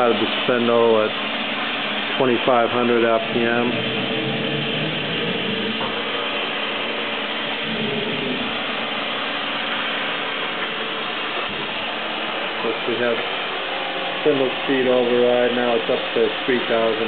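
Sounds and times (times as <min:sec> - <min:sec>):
machine spindle whirring: 0:00.0 - 0:17.0.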